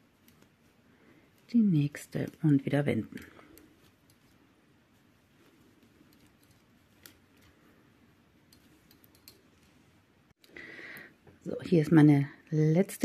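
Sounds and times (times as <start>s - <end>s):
knitting needles clicking: 0.0s - 11.4s.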